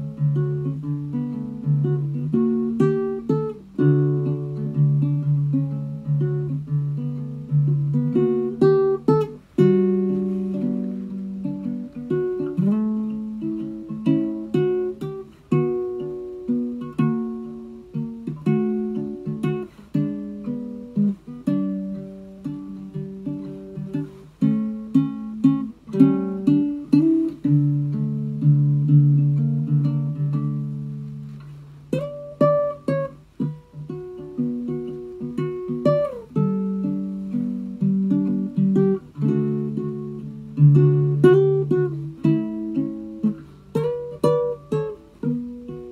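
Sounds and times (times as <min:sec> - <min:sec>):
solo ukulele fingerpicking: 0:00.0 - 0:45.9.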